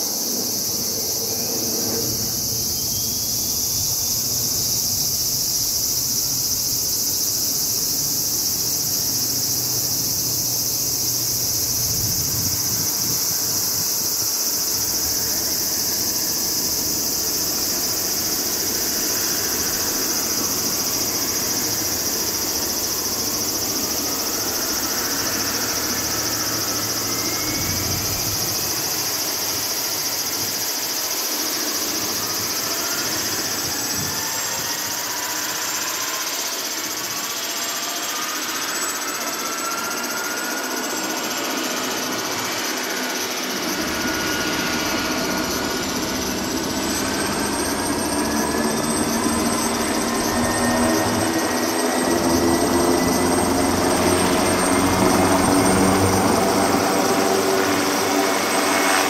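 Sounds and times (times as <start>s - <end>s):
helicopter engines whining: 0.0s - 59.0s
high-pitched buzz: 0.8s - 59.0s.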